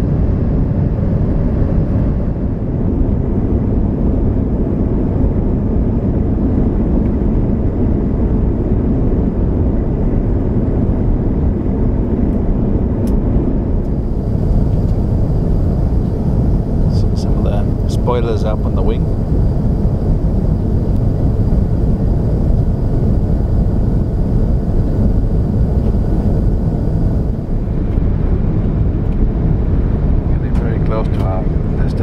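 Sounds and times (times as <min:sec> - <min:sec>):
airliner cabin engine roar: 0:00.0 - 0:32.0.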